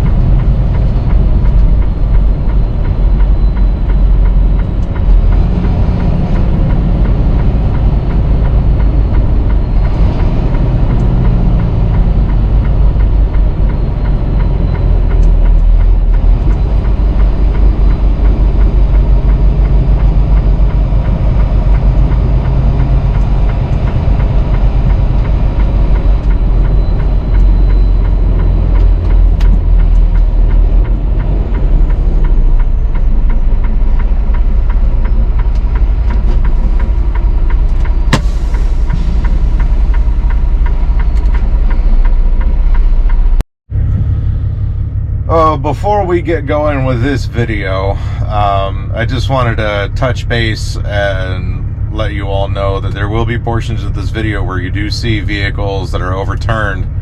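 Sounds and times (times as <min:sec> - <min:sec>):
road noise: 0:00.0 - 0:57.0
truck diesel engine drone: 0:00.0 - 0:57.0.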